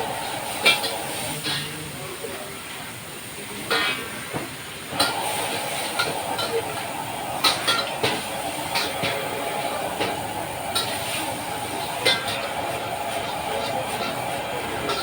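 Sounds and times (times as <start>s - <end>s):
rice frying hiss: 0.0s - 15.0s.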